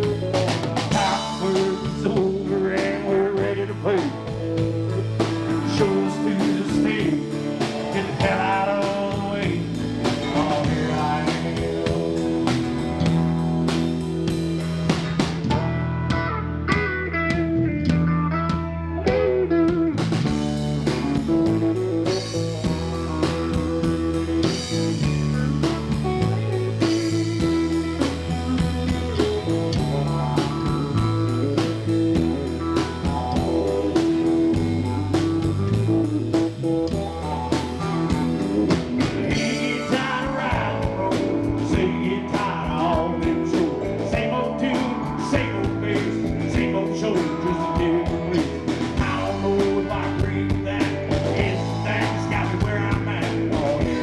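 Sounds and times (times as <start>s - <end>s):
country rock band playing: 0.0s - 54.0s
lead guitar bending notes: 0.0s - 54.0s.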